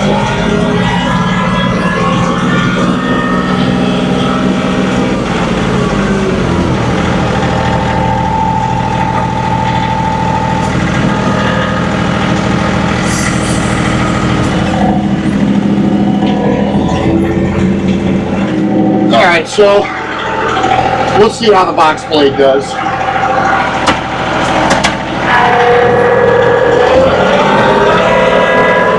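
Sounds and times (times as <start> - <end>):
high whine: 0.0 - 28.9
tractor diesel engine running: 0.0 - 28.9.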